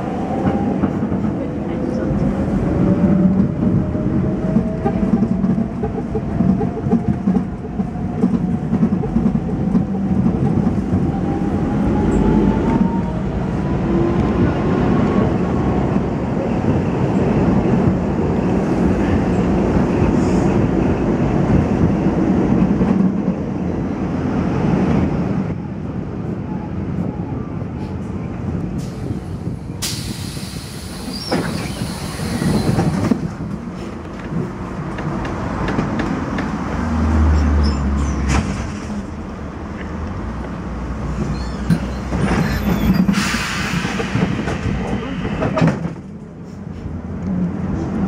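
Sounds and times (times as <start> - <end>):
tram wheels clattering on rails: 0.0 - 25.6, 27.9 - 48.0.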